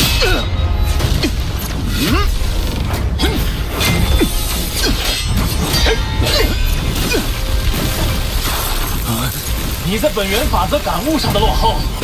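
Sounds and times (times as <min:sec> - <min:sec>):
background music: 0:00.0 - 0:12.0
blade clashes and impacts: 0:00.0 - 0:12.0.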